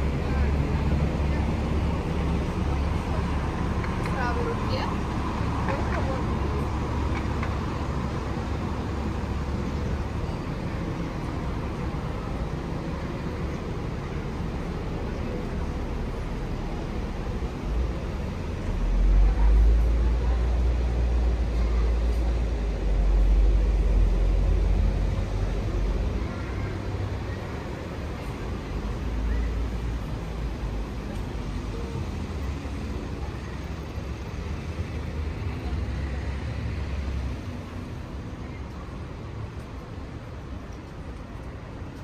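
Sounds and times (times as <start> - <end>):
street traffic rumbling: 0.0 - 42.0.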